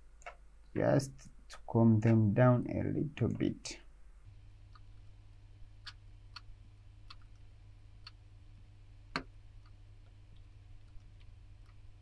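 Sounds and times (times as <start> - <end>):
faint low electrical hum: 0.0 - 12.0.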